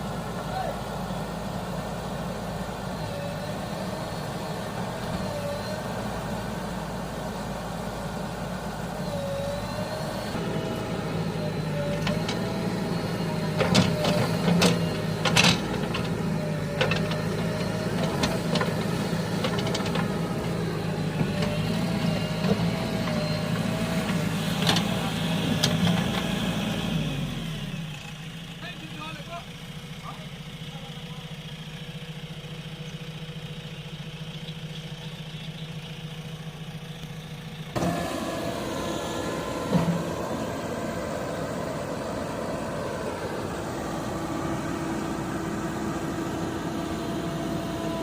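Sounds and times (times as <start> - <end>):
heavy diesel engine idling: 0.0 - 48.0.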